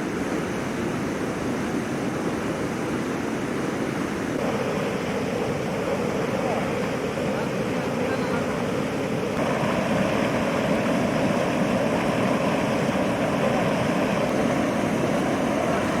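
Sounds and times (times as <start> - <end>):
water rushing through dam gates: 0.0 - 16.0.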